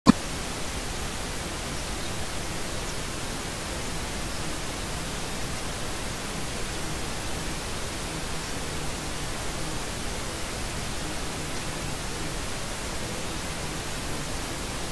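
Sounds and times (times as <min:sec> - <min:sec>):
white noise hiss: 0:00.1 - 0:14.9.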